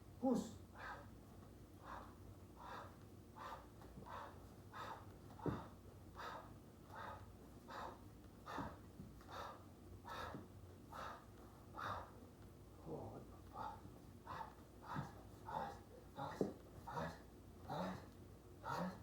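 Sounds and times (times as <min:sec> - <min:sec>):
person breathing hard: 0:01.8 - 0:12.2, 0:13.5 - 0:19.0.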